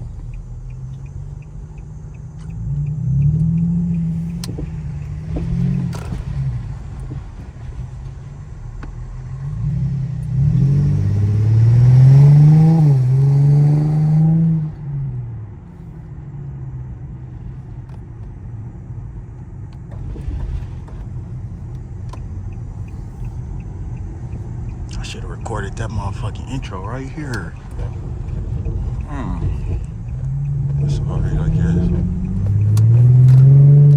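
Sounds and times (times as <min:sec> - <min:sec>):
car engine accelerating and droning: 0:00.0 - 0:33.9.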